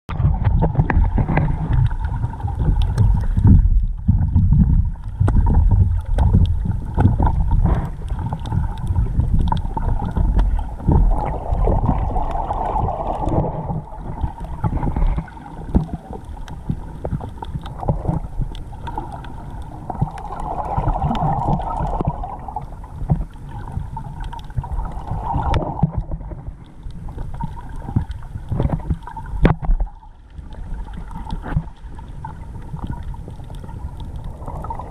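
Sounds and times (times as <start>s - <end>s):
clicks and crackles: 0.1s - 34.9s
underwater moving water rumble: 0.1s - 34.9s.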